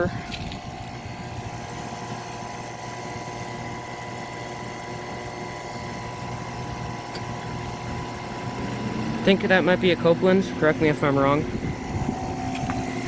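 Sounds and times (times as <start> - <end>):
air conditioner hum: 0.0 - 13.0.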